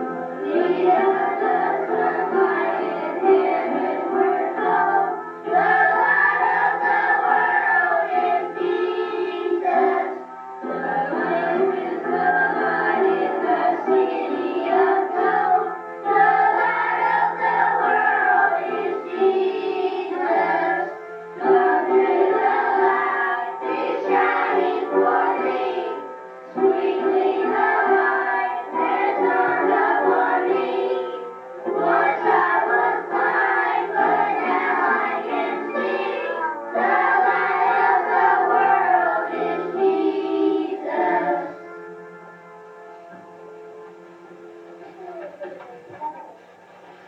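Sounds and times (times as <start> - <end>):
women and children singing: 0.0 - 41.6
musical accompaniment: 0.0 - 47.0.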